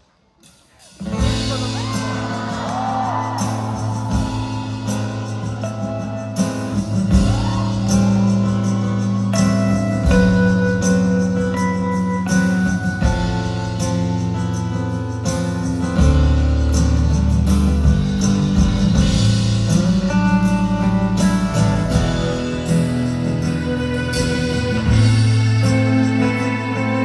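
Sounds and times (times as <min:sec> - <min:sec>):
rock band playing live: 0:00.8 - 0:27.0.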